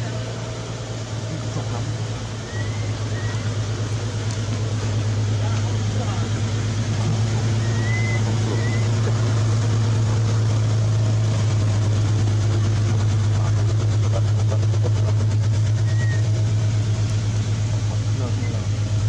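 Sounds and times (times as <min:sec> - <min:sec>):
low pulsing engine drone: 0:00.0 - 0:19.0.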